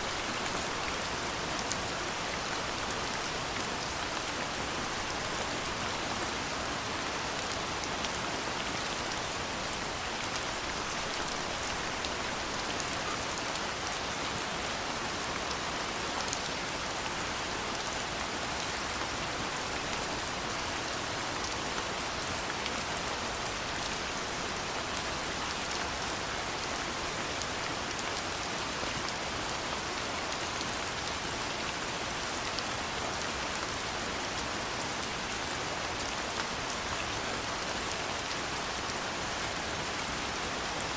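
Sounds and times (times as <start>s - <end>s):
soft rain pattering: 0.0s - 40.9s.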